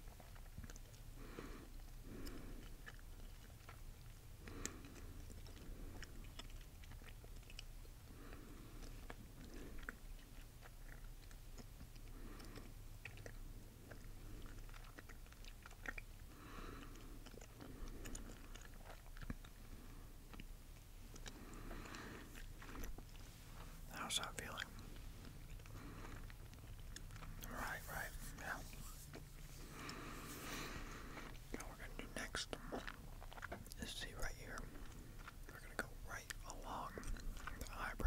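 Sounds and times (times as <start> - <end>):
gum chewing wet smacks: 0.0 - 38.0.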